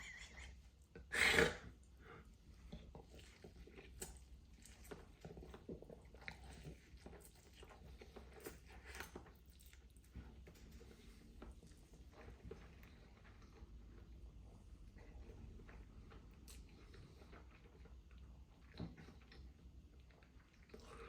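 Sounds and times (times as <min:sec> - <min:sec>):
person chewing noodles: 0:02.3 - 0:10.5, 0:11.3 - 0:21.0.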